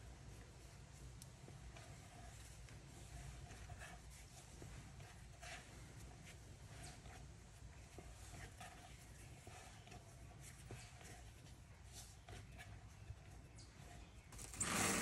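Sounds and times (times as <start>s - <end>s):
hands kneading dough: 0.0s - 14.3s.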